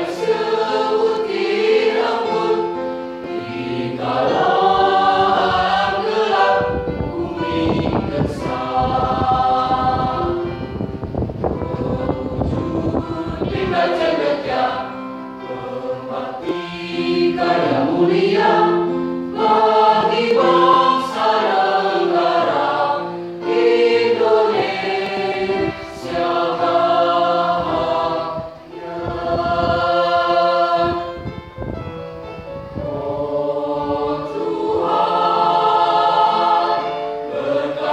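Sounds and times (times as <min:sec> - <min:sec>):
mixed choir singing: 0:00.0 - 0:31.4, 0:32.8 - 0:37.9.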